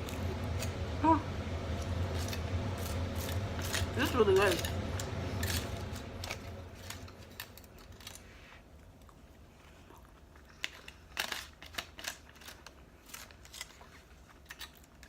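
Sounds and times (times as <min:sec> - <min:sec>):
person chewing and crunching food: 0:00.0 - 0:00.8, 0:01.7 - 0:15.0
low steady hum: 0:00.0 - 0:15.0.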